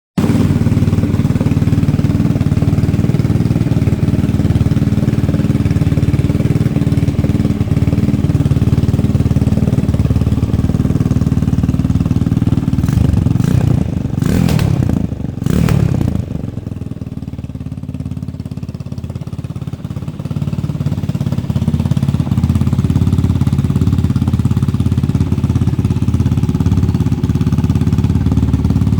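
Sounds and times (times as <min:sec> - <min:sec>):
motorcycle engine idling: 0:00.2 - 0:28.9.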